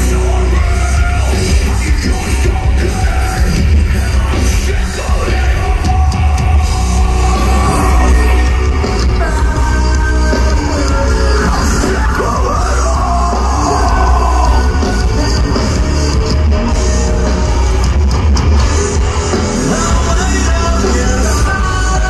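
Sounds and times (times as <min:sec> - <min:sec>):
shouted lead vocal: 0:00.0 - 0:17.8
live rock band playing: 0:00.0 - 0:22.0.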